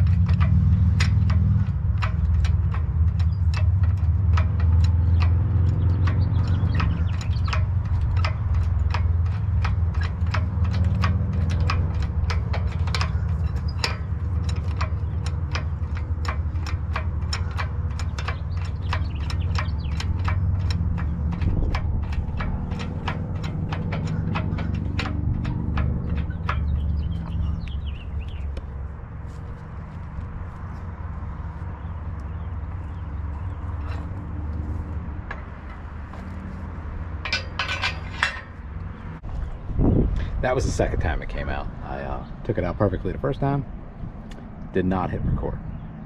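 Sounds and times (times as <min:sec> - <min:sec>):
sharp metallic clicks: 0:00.0 - 0:39.3, 0:40.5 - 0:45.0
steady low rumble: 0:00.0 - 0:46.0.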